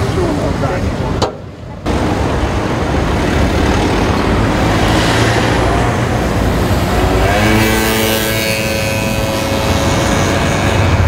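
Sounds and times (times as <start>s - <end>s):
vehicle engine accelerating: 1.9s - 11.0s.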